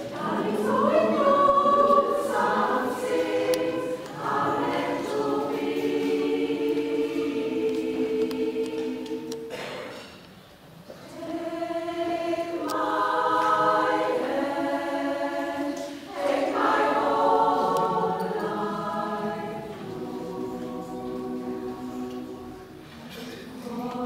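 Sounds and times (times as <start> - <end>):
women's choir singing chords: 0.0 - 9.8, 11.0 - 24.0.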